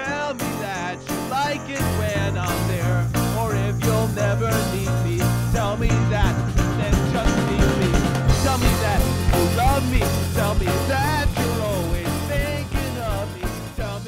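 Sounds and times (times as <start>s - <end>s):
rock-pop song: 0.0s - 14.0s.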